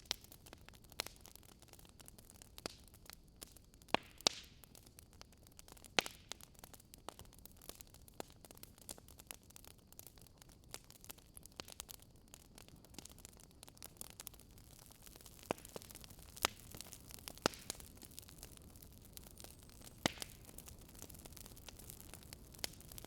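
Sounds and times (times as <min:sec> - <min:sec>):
faint steady hiss: 0:00.0 - 0:23.0
wood fire crackling: 0:00.0 - 0:23.0.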